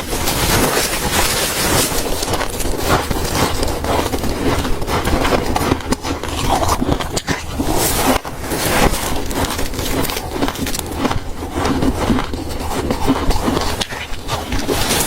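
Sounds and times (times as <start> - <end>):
frost being chewed crunching: 0.0 - 15.0.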